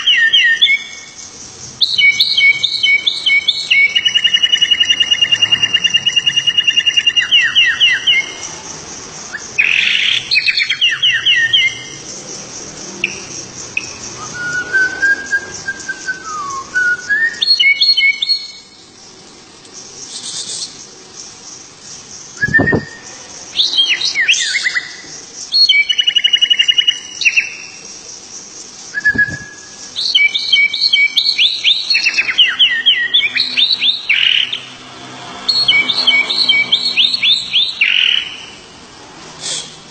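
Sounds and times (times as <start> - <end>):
songbird singing trills: 0.0 - 34.8, 35.4 - 38.7.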